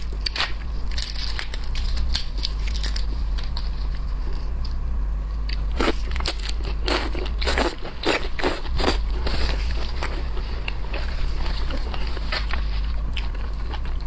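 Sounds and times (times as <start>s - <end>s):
crunching shell-on seafood: 0.0s - 4.8s, 5.4s - 14.0s.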